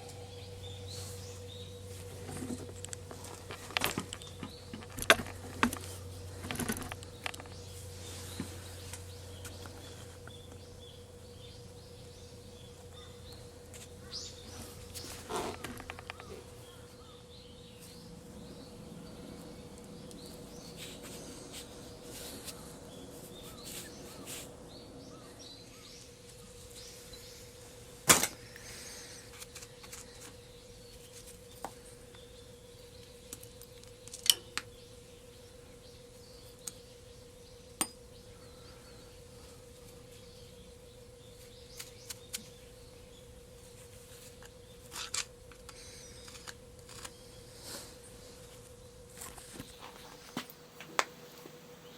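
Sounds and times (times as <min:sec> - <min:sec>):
faint hum: 0:00.0 - 0:51.9.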